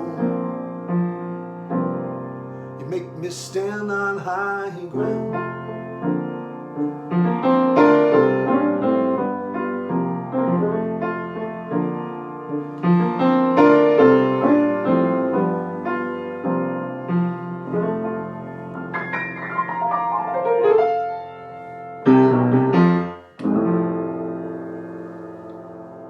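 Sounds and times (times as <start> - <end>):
solo piano chords ringing: 0.0 - 26.0.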